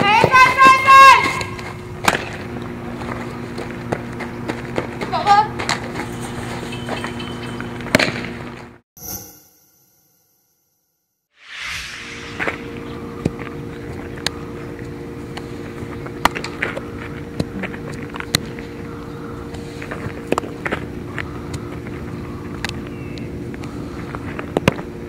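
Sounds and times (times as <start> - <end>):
steady motor hum: 0.0 - 8.8, 12.1 - 25.0.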